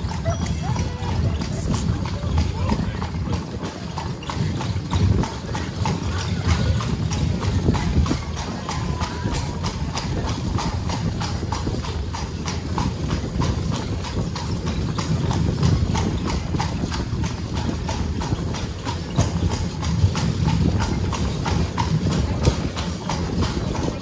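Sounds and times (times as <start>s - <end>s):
carriage wheels rumbling: 0.0s - 24.0s
horse hooves on brick: 0.0s - 24.0s.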